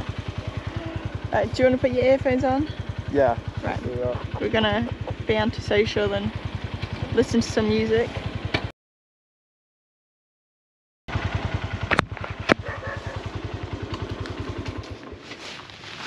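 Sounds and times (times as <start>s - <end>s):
motorcycle engine puttering: 0.0s - 8.7s, 11.1s - 16.0s.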